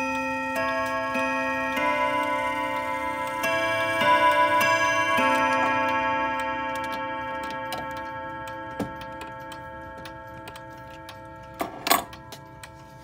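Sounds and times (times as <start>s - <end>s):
clock chime rods ringing: 0.0s - 13.0s
clock ticking faintly: 0.0s - 13.0s.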